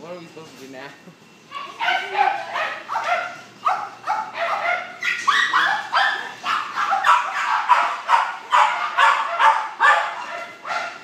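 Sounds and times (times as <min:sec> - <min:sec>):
dogs barking: 0:01.5 - 0:11.0
dogs yipping: 0:01.5 - 0:11.0.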